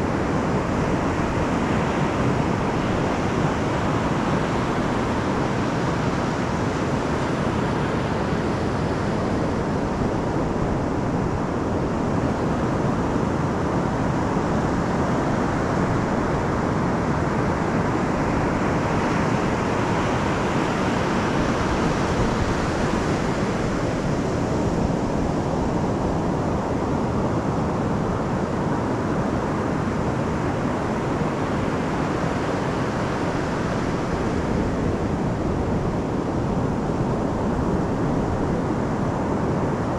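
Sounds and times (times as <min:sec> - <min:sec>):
surf waves washing on beach: 0:00.0 - 0:39.9.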